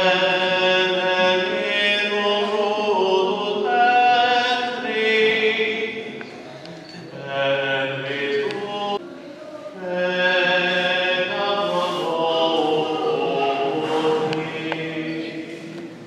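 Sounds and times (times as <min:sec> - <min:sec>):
slow church singing: 0:00.0 - 0:16.0.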